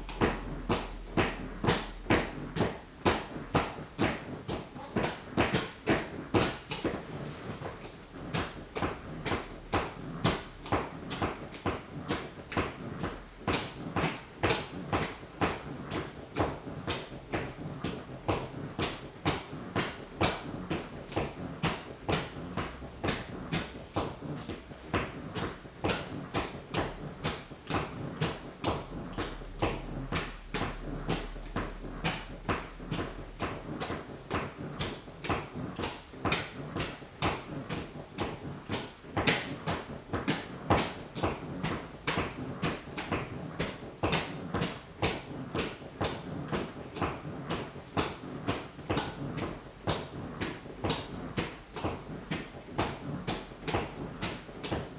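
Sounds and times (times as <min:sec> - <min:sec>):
sneaker toes tapping on wooden floor: 0:00.0 - 0:54.9.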